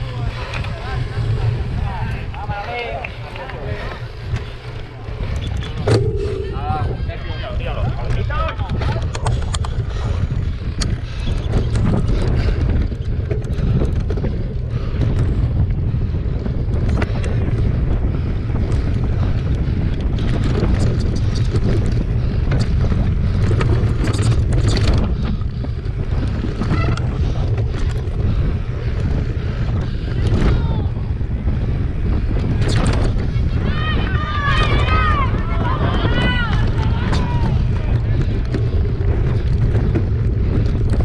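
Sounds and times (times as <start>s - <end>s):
bike clicks and rattles: 0.0s - 41.0s
bike tyres on dirt trail: 0.0s - 41.0s
wind buffeting microphone: 0.0s - 41.0s.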